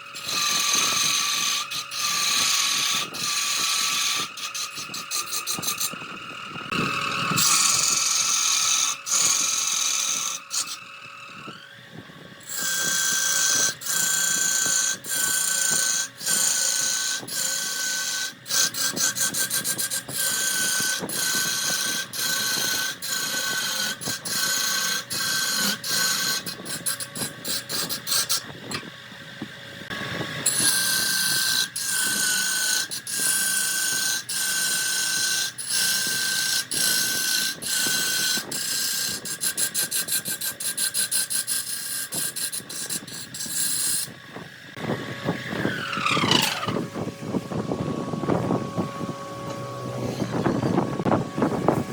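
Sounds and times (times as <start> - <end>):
wood lathe machine whine: 0.0 - 51.9.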